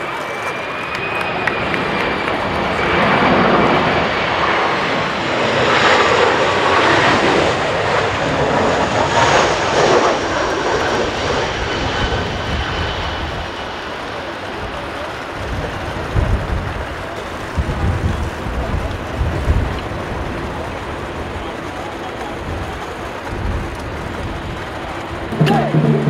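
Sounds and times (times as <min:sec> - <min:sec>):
jet airliner passing overhead: 0:00.0 - 0:26.0
wind buffeting microphone: 0:00.0 - 0:26.0.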